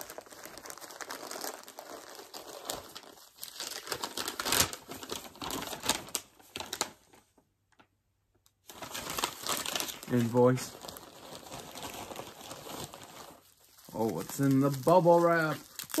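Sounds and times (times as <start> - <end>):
plastic mailer bag crinkling: 0.0 - 7.3, 8.6 - 16.0.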